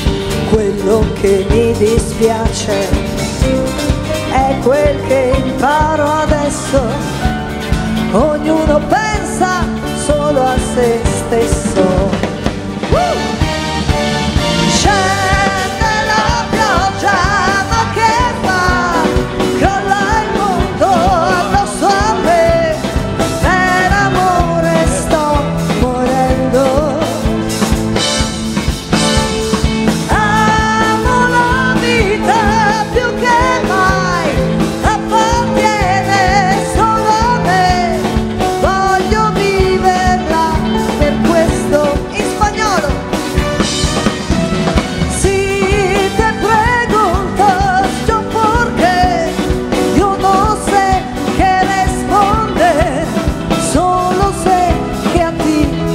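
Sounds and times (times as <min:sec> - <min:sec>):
woman singing: 0:00.0 - 0:13.5, 0:14.4 - 0:27.8, 0:29.8 - 0:55.9
drums: 0:00.0 - 0:55.9
electric bass: 0:00.0 - 0:55.9.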